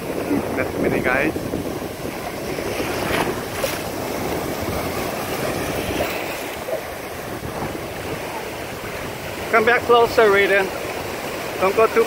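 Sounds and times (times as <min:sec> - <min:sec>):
small waves breaking: 0:00.0 - 0:12.0
whitewater washing through shallows: 0:00.0 - 0:12.0.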